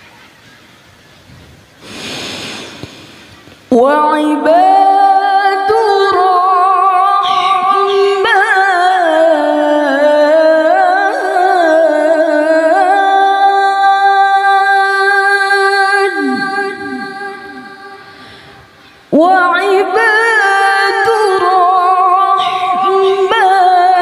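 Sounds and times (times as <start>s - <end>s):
woman reciting melodically: 3.7s - 24.0s.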